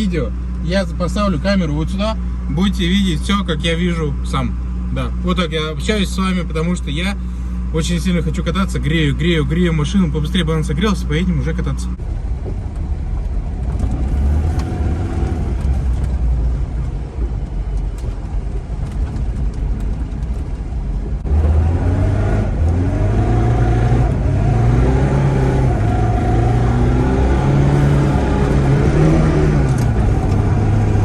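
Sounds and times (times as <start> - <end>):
car engine heard from inside: 0.0 - 31.0.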